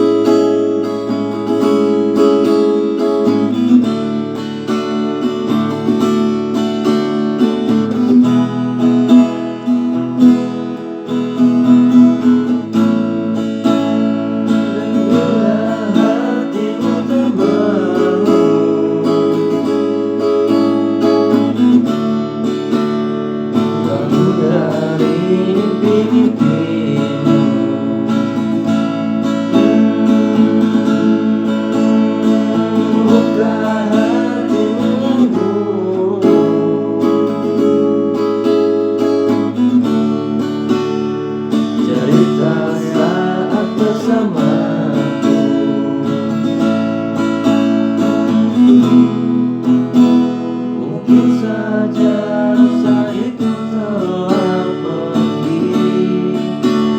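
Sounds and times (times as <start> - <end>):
acoustic guitar strumming chords: 0.0 - 56.9.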